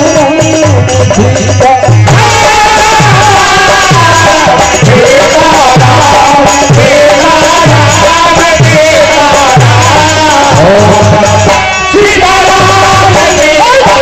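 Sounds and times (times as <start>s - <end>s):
dholak bass strokes: 0.0s - 14.0s
man singing: 0.0s - 14.0s.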